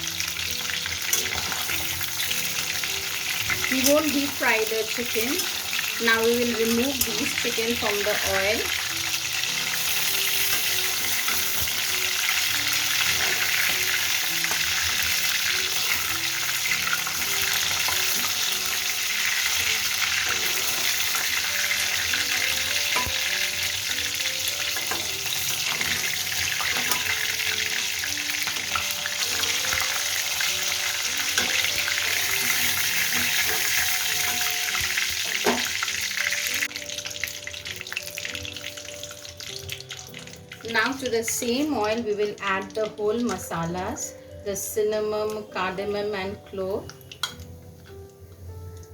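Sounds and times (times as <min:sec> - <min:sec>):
chicken frying in oil: 0:00.0 - 0:44.1
soft background music: 0:00.0 - 0:48.9.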